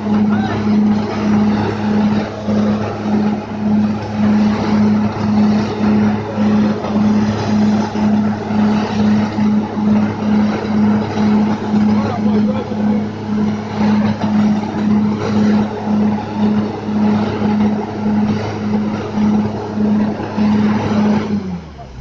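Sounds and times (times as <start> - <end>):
dense rushing noise: 0.0 - 22.0
low engine drone: 0.0 - 22.0
pulsing hum: 0.0 - 22.0.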